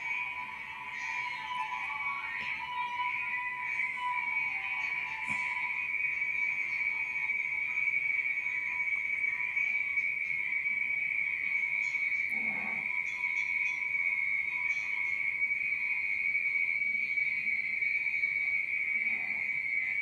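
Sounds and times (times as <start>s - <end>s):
high-pitched whistling tone: 0.0s - 20.0s.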